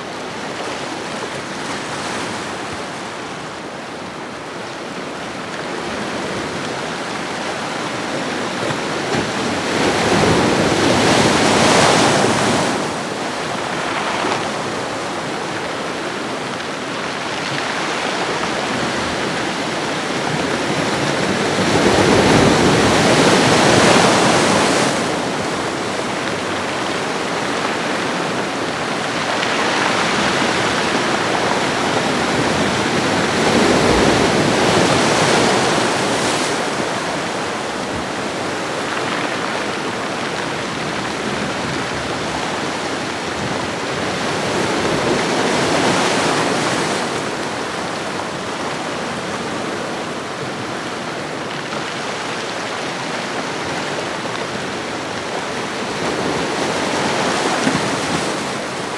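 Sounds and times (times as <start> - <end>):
ocean waves on shore: 0.0 - 58.9.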